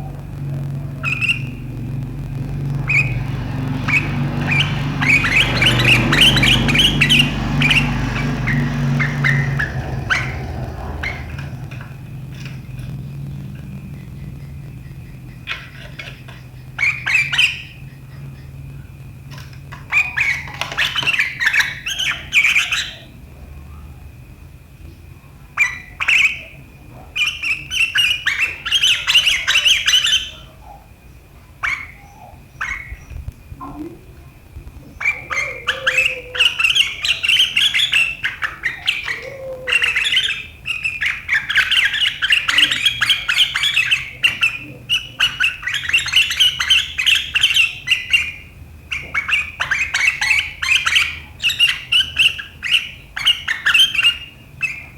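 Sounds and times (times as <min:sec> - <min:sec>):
bird chattering calls: 0:00.0 - 0:19.0, 0:19.7 - 0:23.2, 0:25.6 - 0:30.6, 0:34.8 - 0:54.9.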